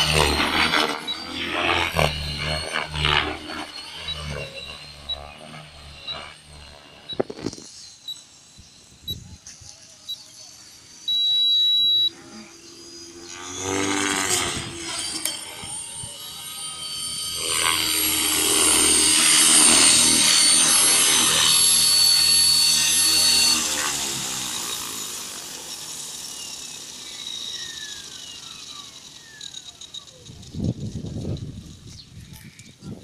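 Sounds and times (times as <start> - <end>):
rotor blades whooshing: 0.0 - 9.1, 10.8 - 32.4
rc helicopter motor whining: 0.0 - 33.0.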